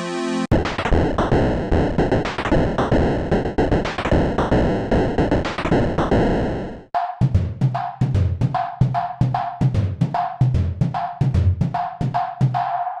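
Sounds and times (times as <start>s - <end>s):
looping drum beat: 0.5s - 13.0s.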